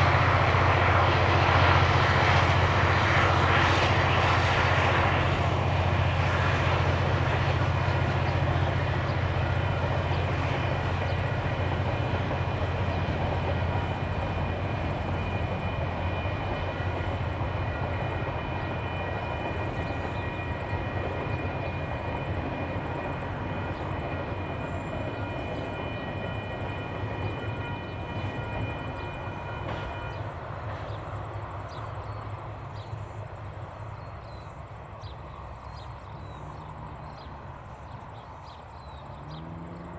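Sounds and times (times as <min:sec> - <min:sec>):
propeller drone: 0:00.0 - 0:39.9
turbine whine: 0:00.0 - 0:39.9.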